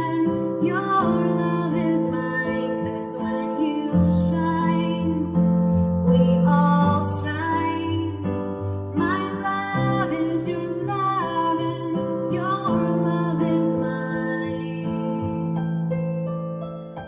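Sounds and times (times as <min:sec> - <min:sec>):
woman singing: 0:00.0 - 0:15.8.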